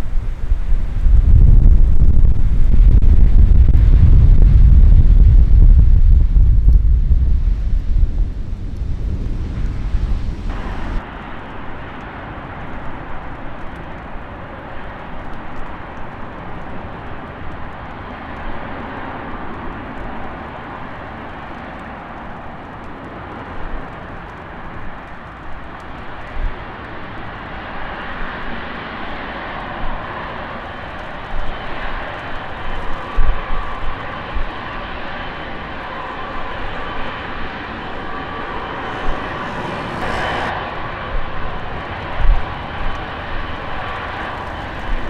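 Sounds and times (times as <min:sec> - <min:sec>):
distant jet engines running: 0:00.0 - 0:45.0
wind buffeting microphone: 0:00.0 - 0:45.0.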